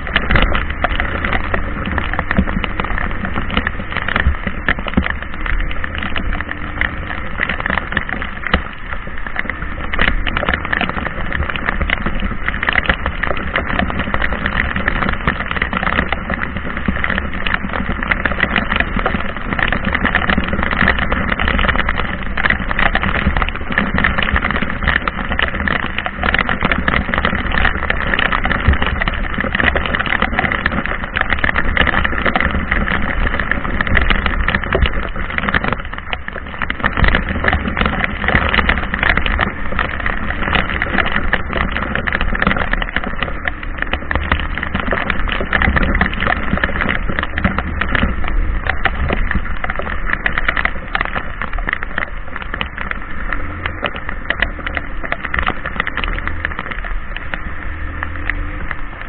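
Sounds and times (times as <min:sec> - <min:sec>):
constant low rumble: 0:00.0 - 0:59.0
heavy rain: 0:00.0 - 0:59.0.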